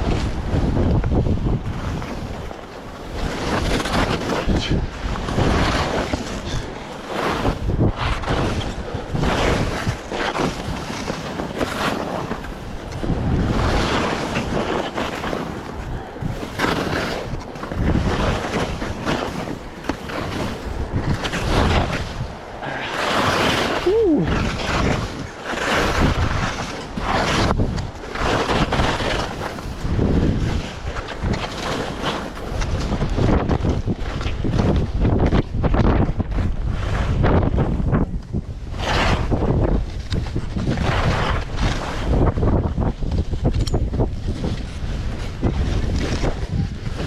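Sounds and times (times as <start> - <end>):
skis scraping on snow: 0.0 - 47.0
wind buffeting microphone: 0.0 - 47.0.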